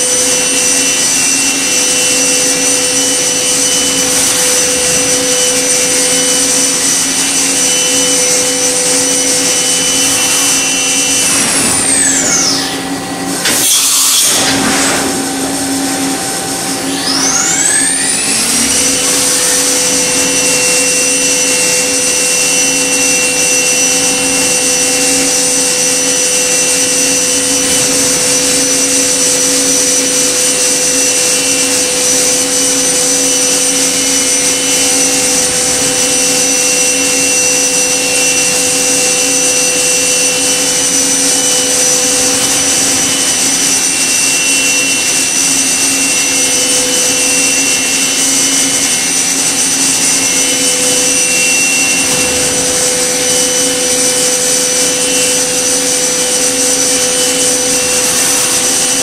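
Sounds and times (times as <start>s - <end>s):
machine spindle whine: 0.0s - 59.0s.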